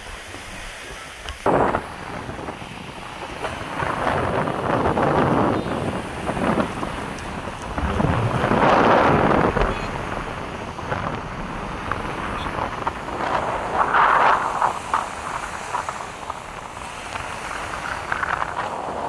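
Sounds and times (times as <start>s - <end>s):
choppy sea washing: 0.0s - 19.0s
gusty wind buffeting microphone: 0.0s - 19.0s.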